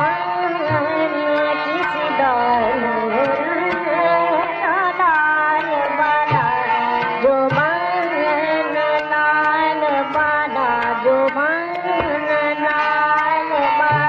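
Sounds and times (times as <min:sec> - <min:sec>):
harmonium: 0:00.0 - 0:14.0
sarangi: 0:00.0 - 0:14.0
tabla strokes: 0:00.0 - 0:14.0
woman singing: 0:00.0 - 0:14.0.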